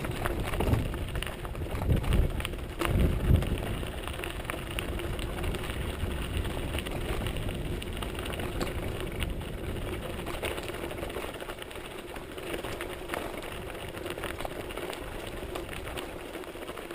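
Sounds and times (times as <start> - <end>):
bike clicks and rattles: 0.0 - 16.9
bike tyre rumble on dirt: 0.0 - 16.9.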